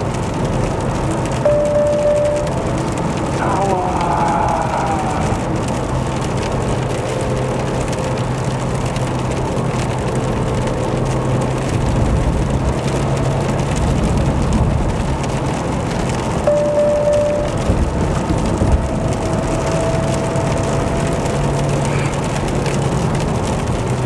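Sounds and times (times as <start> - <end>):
car engine hum: 0.0 - 24.0
rain on windscreen: 0.0 - 24.0
tyres hissing on wet road: 0.0 - 24.0.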